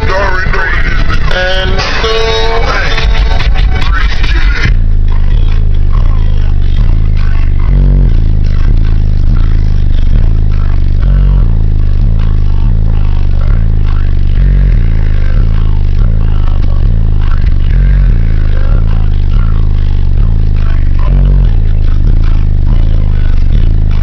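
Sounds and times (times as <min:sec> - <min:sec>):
car rattling from bass: 0:00.0 - 0:24.0
loud bass-heavy music from car: 0:00.0 - 0:24.0.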